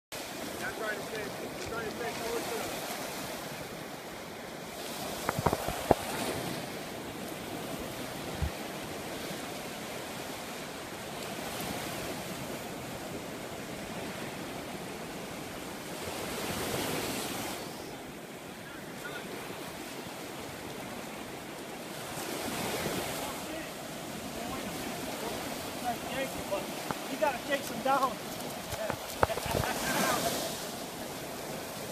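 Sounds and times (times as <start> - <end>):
ocean surf washing onto beach: 0.2 - 31.9.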